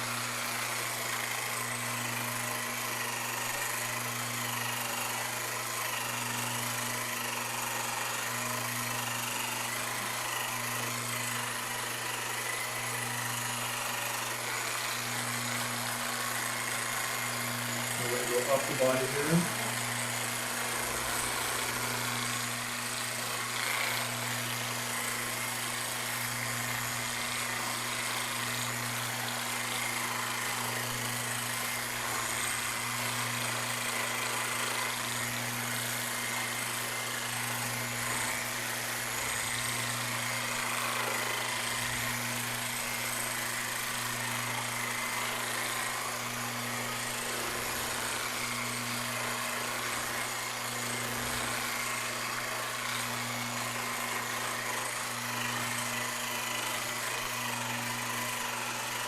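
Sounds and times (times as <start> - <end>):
massage tool humming: 0.0 - 59.0.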